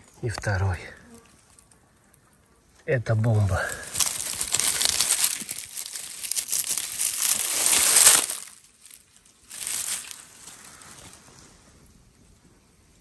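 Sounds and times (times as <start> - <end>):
rustling dry leaves and twigs: 1.2 - 12.4.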